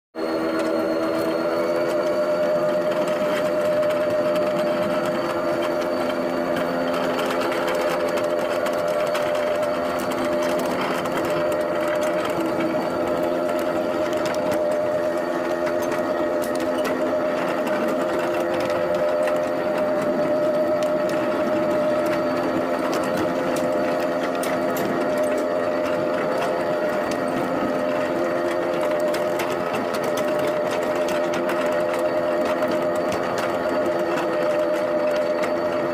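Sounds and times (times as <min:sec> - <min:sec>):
miniature train drive whine: 0:00.2 - 0:35.9
wheels clicking on rails: 0:00.2 - 0:35.9.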